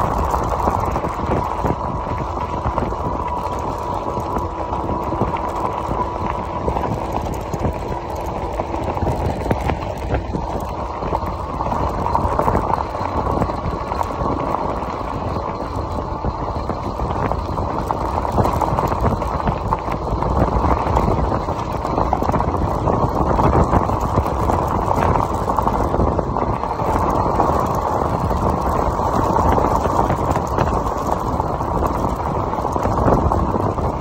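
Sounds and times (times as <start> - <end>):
faint steady whine: 0.0 - 34.0
tires rolling on gravel: 0.0 - 34.0
wind on microphone: 0.0 - 34.0.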